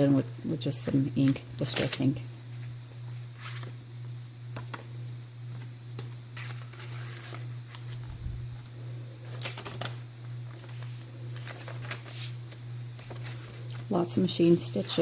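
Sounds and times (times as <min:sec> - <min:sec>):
steady low hum: 0:00.0 - 0:15.0
paper pages rustling: 0:00.8 - 0:03.8, 0:05.5 - 0:15.0.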